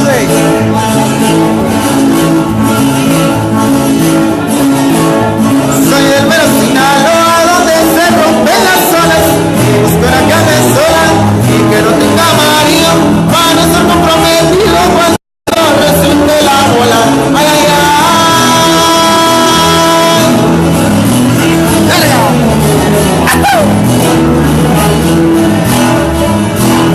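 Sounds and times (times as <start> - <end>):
bass line: 0.0 - 26.9
guitar: 0.0 - 26.9
latin band music: 0.0 - 26.9
person singing: 0.0 - 26.9.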